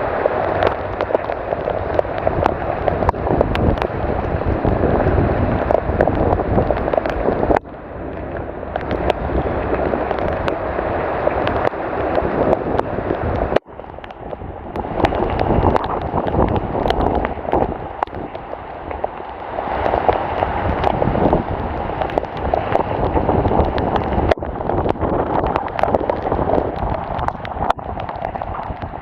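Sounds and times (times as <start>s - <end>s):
rain falling steadily: 0.0s - 29.0s.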